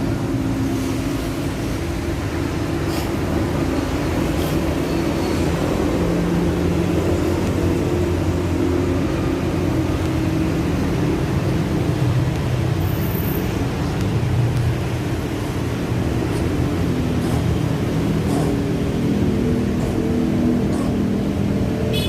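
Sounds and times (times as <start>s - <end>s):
low mechanical drone: 0.0s - 12.8s, 13.5s - 22.0s.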